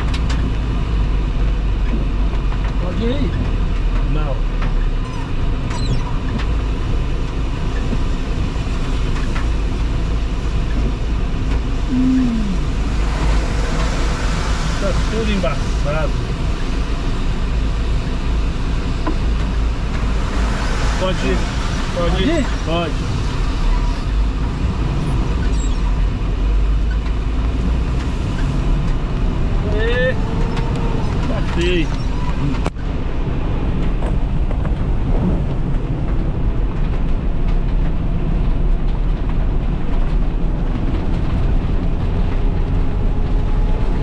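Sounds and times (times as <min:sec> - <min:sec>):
engine and road rumble: 0:00.0 - 0:44.0
rain hissing on windshield: 0:00.0 - 0:44.0
windshield wipers sweeping: 0:03.3 - 0:43.9.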